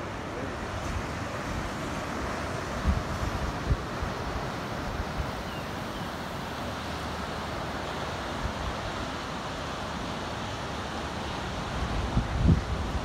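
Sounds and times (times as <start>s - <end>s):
strong storm wind: 0.0s - 13.0s.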